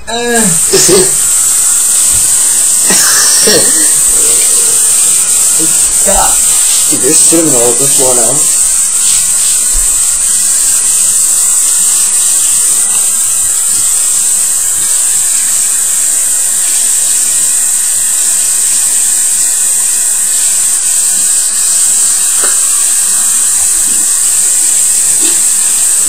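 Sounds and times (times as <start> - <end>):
constant hiss: 0.0 - 26.0
small electric motor whine: 0.0 - 26.0.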